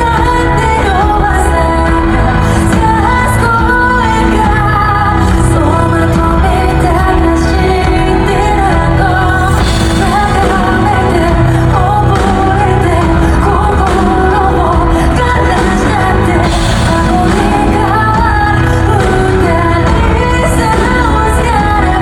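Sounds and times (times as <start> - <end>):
band playing pop song: 0.0 - 22.0
woman singing: 0.0 - 22.0.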